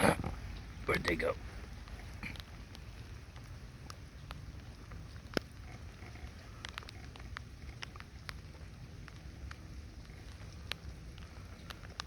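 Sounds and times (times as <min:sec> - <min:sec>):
raindrops ticking: 0:00.0 - 0:12.0.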